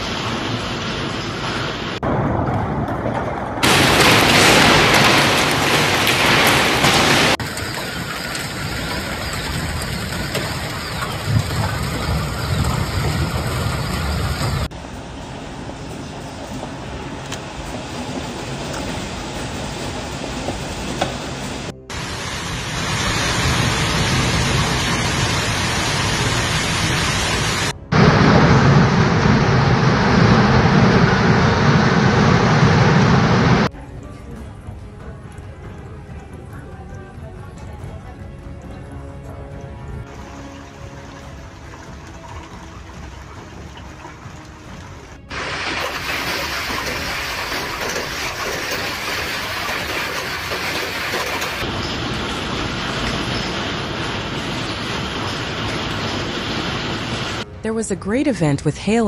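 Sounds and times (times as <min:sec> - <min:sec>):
heavy rain pouring: 0:00.0 - 0:02.5, 0:03.6 - 0:33.7, 0:39.8 - 0:57.5.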